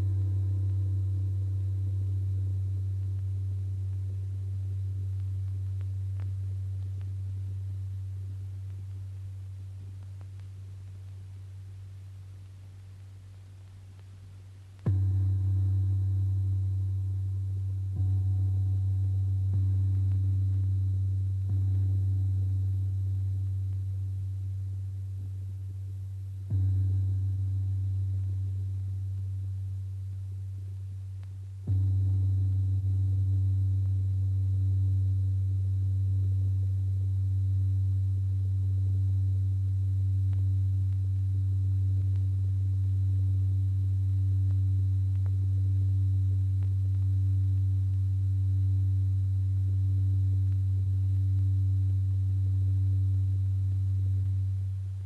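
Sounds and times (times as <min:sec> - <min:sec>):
low steady drone tone: 0:00.0 - 0:55.0.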